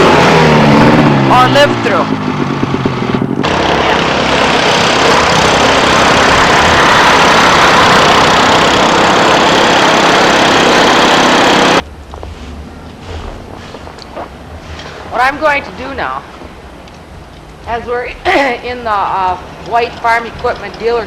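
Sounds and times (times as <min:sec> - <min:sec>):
loud engine noise: 0:00.0 - 0:17.8.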